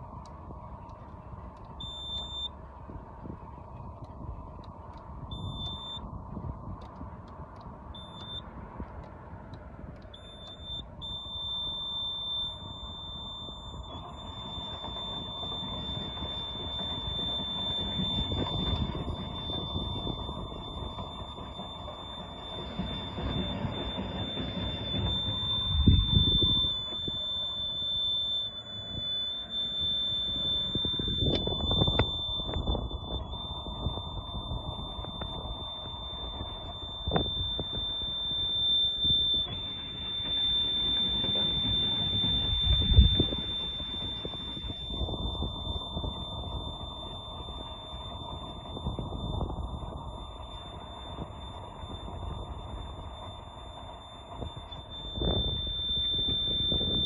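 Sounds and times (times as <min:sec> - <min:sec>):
high-pitched warning buzzer: 0:01.8 - 0:02.5, 0:10.2 - 0:57.0
boat engine cranking: 0:10.1 - 0:57.0.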